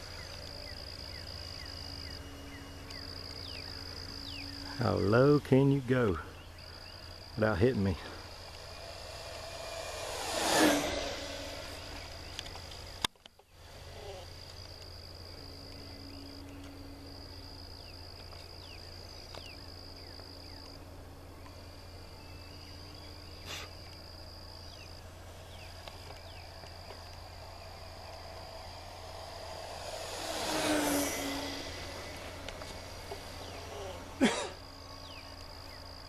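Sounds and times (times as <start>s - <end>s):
model plane motor whine: 0.0s - 5.4s, 6.1s - 36.0s
high insect trill: 0.0s - 36.0s.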